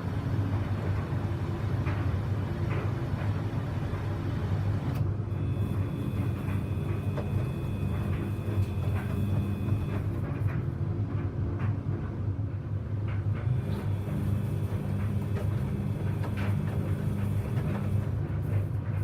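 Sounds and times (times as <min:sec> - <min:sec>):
washing machine hum: 0:00.0 - 0:19.0.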